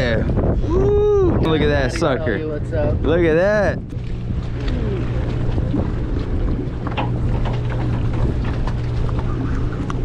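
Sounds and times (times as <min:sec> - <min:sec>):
wind on microphone: 0:00.0 - 0:10.0
boat engine drone: 0:00.3 - 0:10.0.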